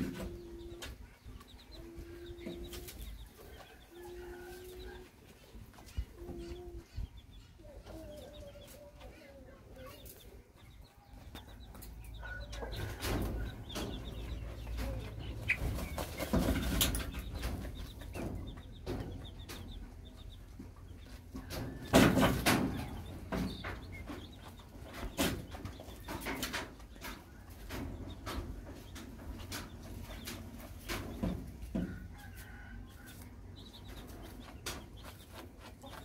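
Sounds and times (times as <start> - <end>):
chicks peeping: 0.0 - 36.0
hen clucking: 0.0 - 36.0
rustling and scratching in dirt: 0.0 - 36.0.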